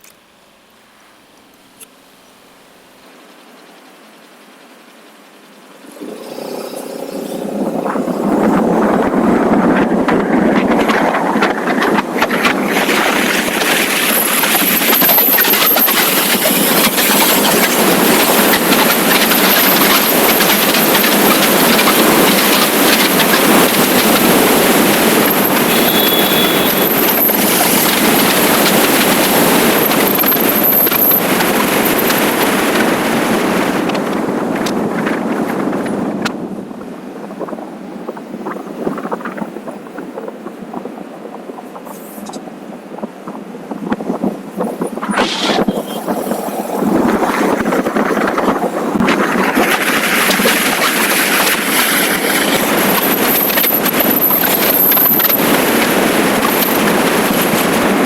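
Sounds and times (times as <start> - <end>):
motorcycle road noise: 0.0 - 58.0
wind rush: 5.8 - 58.0.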